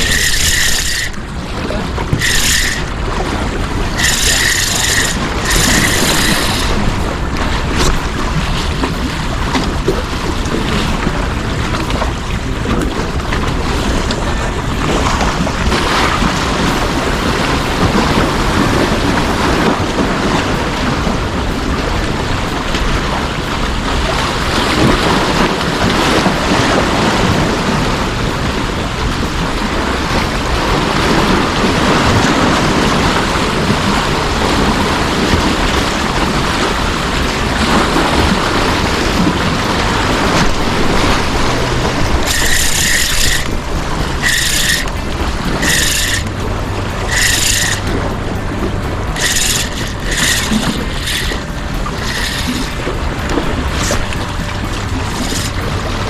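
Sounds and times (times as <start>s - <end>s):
sea waves washing on breakwater: 0.0s - 56.0s
wind noise on microphone: 0.0s - 56.0s.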